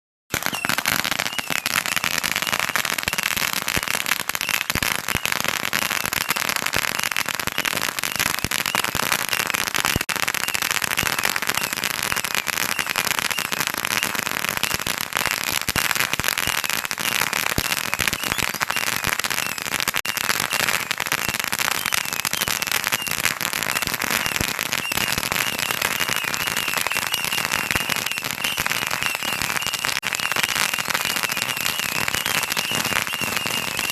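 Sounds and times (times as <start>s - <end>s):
firecrackers popping rapidly: 0.3s - 33.9s
high steady whistle: 0.4s - 33.9s.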